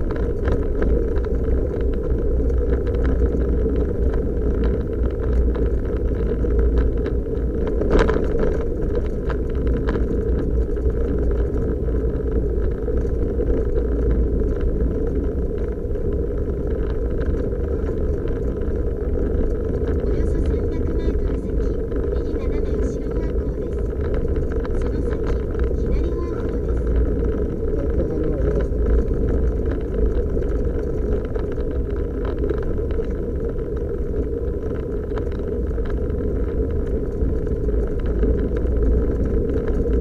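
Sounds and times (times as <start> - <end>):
car engine low rumble: 0.0 - 40.0
tyres on gravel: 0.0 - 40.0.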